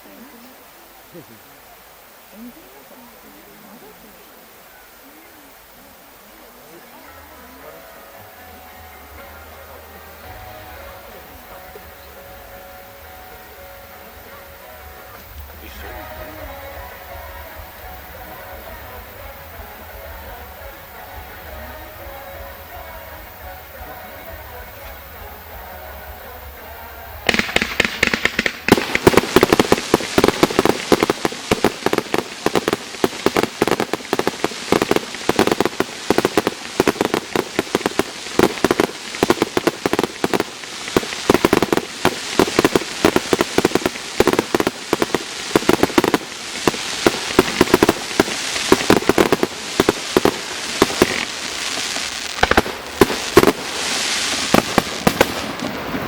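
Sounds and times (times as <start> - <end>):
fireworks bangs and crackles: 6.8 - 56.0.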